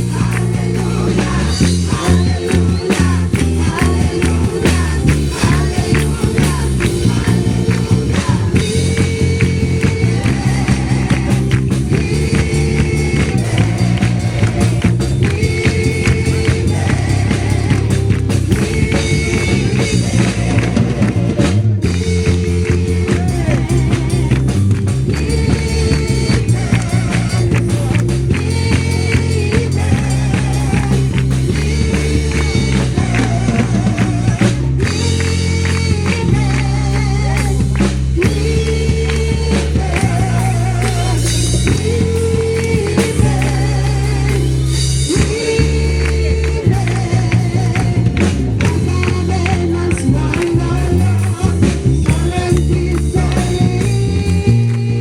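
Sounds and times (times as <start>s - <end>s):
band music with singing: 0.0s - 55.0s.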